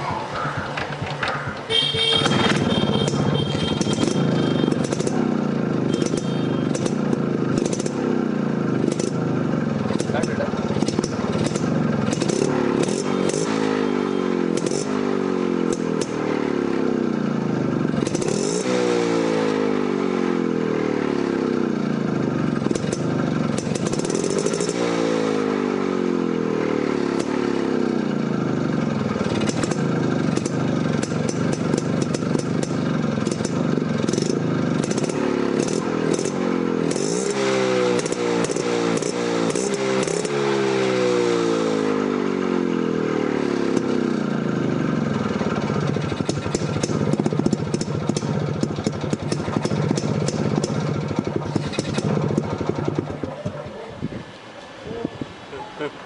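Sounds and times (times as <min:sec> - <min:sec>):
two-stroke motorcycle engine running: 0:00.0 - 0:54.7.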